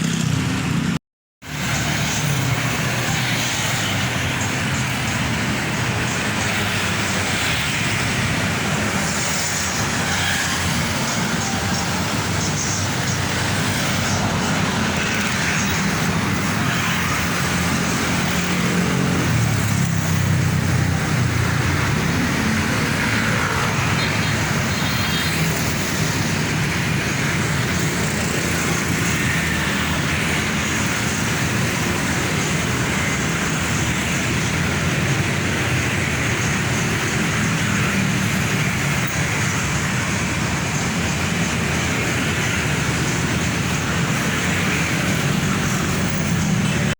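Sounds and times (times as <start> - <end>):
heavy truck engines: 0.0 - 46.9.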